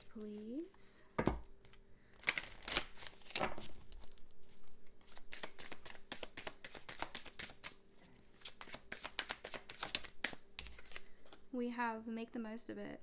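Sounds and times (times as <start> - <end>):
cards being shuffled: 0.3 - 11.4.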